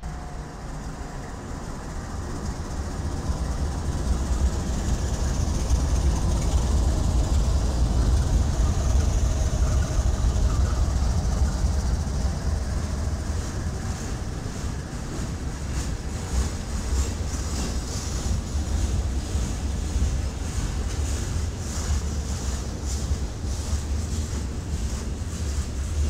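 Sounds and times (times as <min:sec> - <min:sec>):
diesel locomotives passing: 0:00.0 - 0:26.0.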